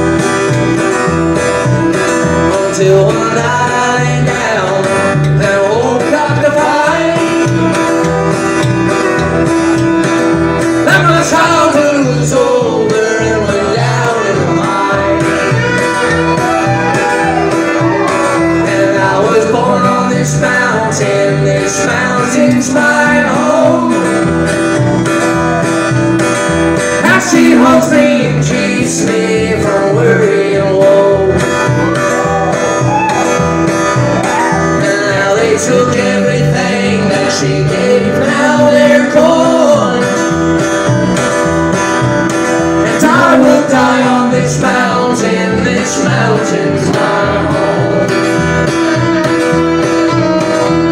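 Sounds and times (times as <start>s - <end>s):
bending melody line: 0.0s - 50.9s
strummed acoustic guitar: 0.0s - 50.9s
upright bass: 0.0s - 50.9s.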